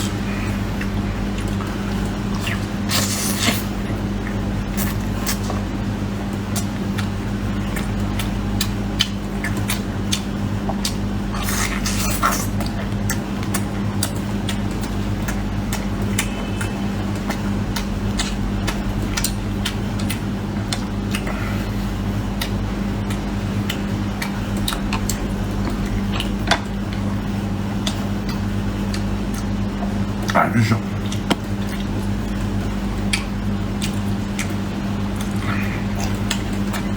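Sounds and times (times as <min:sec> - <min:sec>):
chewing and gnawing ribs: 0:00.0 - 0:36.9
steady low hum: 0:00.0 - 0:36.9.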